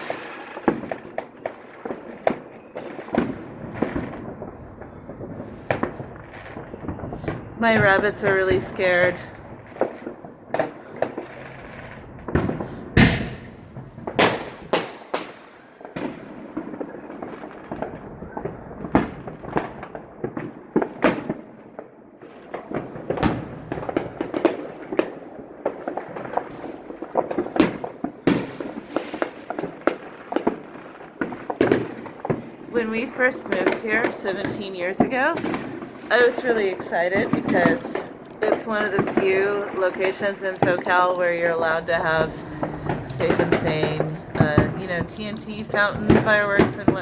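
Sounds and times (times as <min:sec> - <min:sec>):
firecracker pops crackling: 0:00.0 - 0:47.0
loud firework bangs: 0:00.0 - 0:47.0.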